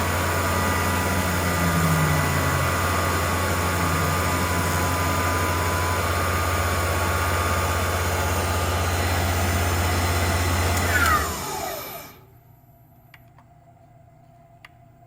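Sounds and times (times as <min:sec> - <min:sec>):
cnc router milling wood: 0:00.0 - 0:12.2.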